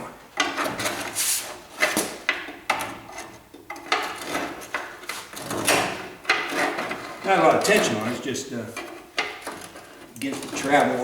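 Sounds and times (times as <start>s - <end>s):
metal scraping and knocking: 0.4s - 11.0s.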